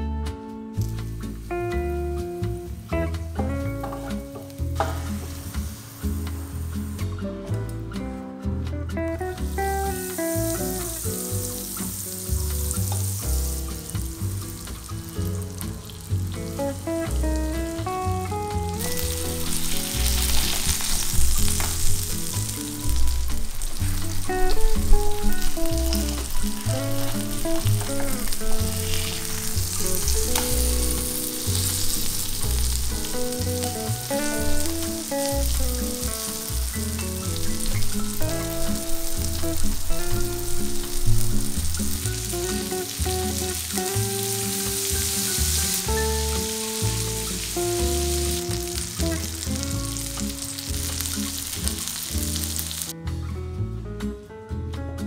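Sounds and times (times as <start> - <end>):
background music: 0.0 - 55.0
fish sizzling in a skillet: 3.9 - 7.2, 9.3 - 52.9.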